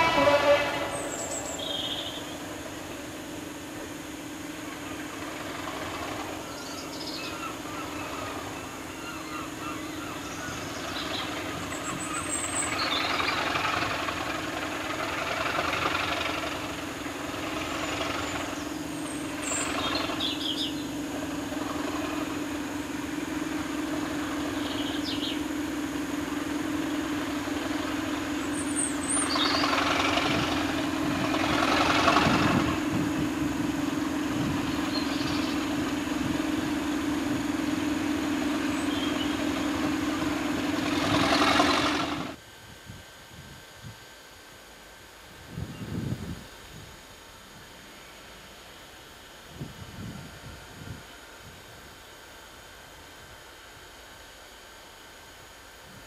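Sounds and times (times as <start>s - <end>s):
diesel locomotive engine humming: 0.0s - 56.0s.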